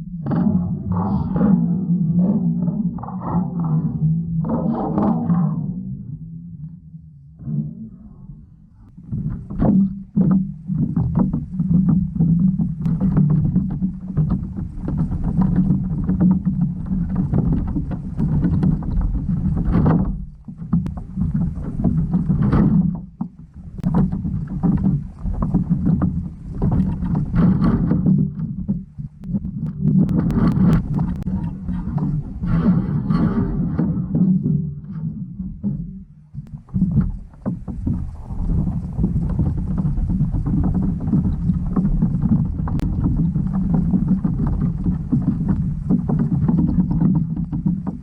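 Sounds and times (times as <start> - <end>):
muffled underwater rumble: 0.0 - 48.0
underwater clicks and knocks: 2.2 - 48.0.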